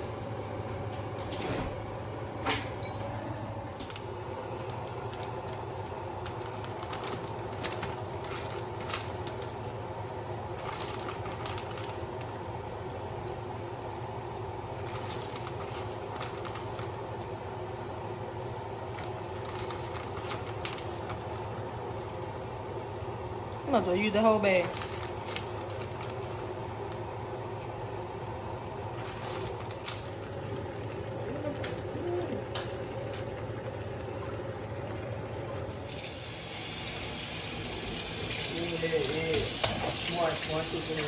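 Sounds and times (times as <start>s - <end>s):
steady machine hum: 0.0s - 41.0s.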